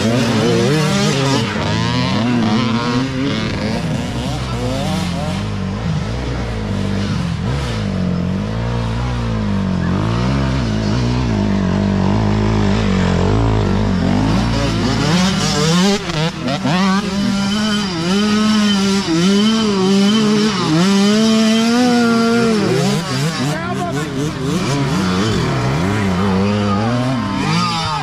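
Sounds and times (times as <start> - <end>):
dirt bike engines revving: 0.0 - 28.0
nearer dirt bike revving: 0.0 - 28.0.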